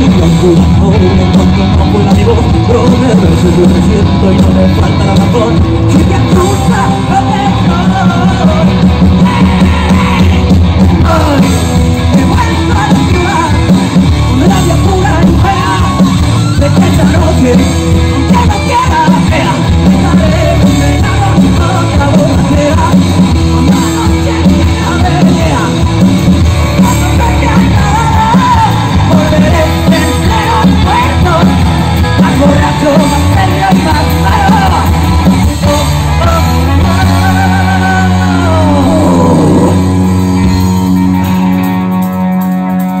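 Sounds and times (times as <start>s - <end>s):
person singing: 0.0s - 40.5s
rock band playing live: 0.0s - 43.0s.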